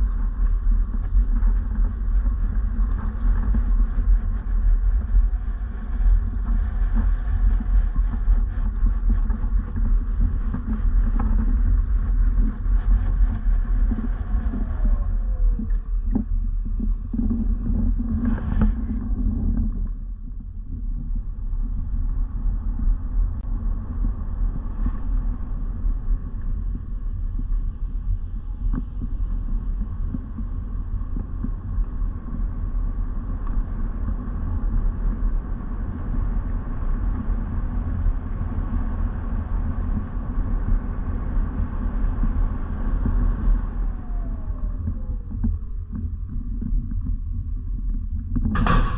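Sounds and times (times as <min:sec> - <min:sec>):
faint falling whine: 0:00.0 - 0:48.9
steady low rumble: 0:00.0 - 0:48.9.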